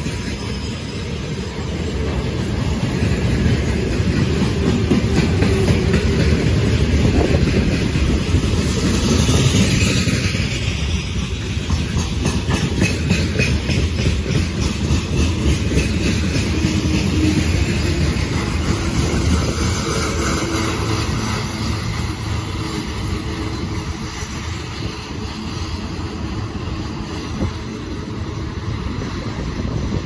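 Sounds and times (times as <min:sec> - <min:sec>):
freight wagons rumbling on rails: 0:00.0 - 0:30.0.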